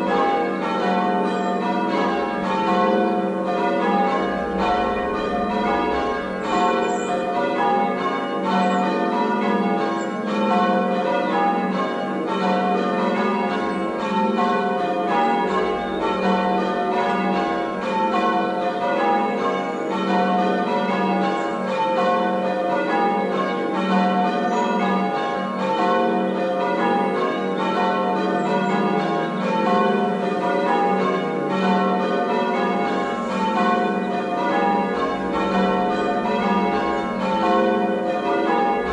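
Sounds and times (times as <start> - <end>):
church bells ringing changes: 0.0 - 38.9.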